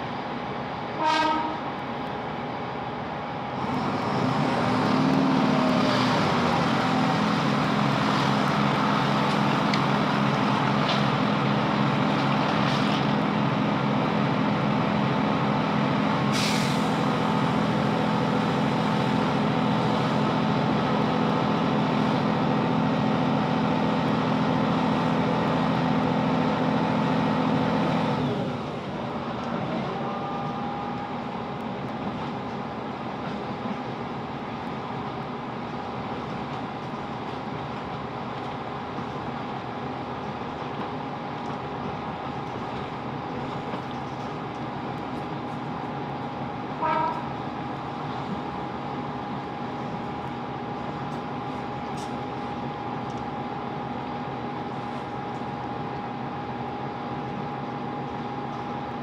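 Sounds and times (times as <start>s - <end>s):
rail running noise: 0.0s - 59.0s
train diesel engine droning: 0.0s - 59.0s.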